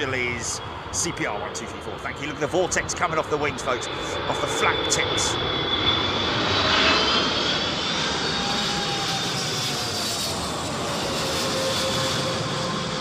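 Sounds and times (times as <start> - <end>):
jet engines passing low: 0.0 - 13.0.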